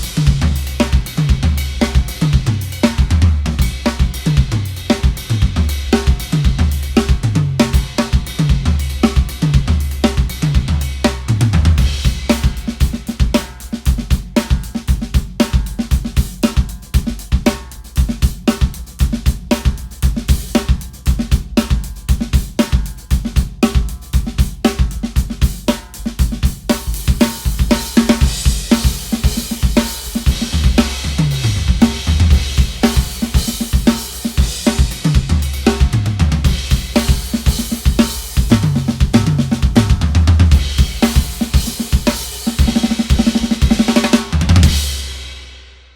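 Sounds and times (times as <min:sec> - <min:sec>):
drum kit groove: 0:00.0 - 0:45.7.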